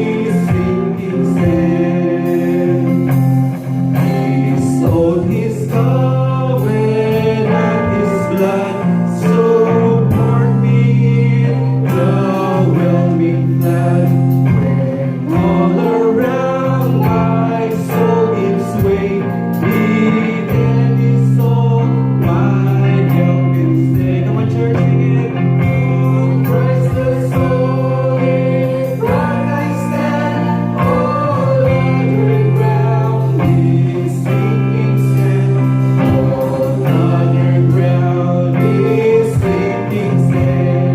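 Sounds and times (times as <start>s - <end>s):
group singing a hymn: 0.0s - 40.9s
strummed chords: 0.0s - 40.9s.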